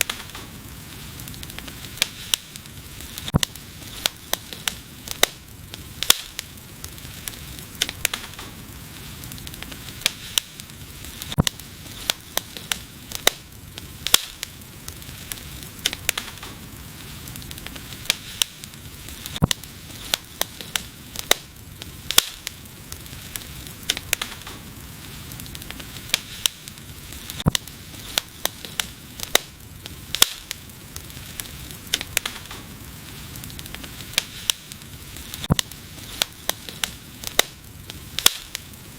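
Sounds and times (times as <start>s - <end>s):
fire hissing: 0.0s - 38.9s
wood fire crackling and popping: 0.0s - 38.9s.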